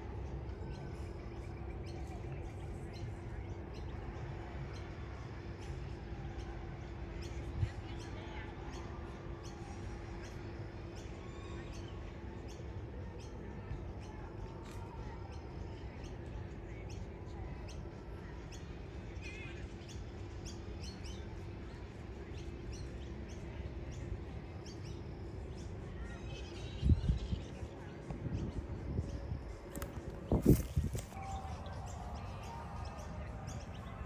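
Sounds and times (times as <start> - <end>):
low outdoor rumble: 0.0 - 34.0
birds chirping: 0.1 - 34.0.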